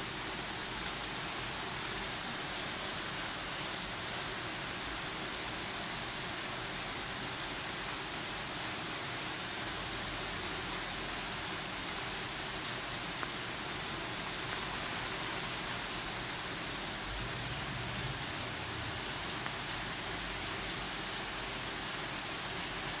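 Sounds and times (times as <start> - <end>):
heavy rain on rooftops and foliage: 0.0 - 23.0.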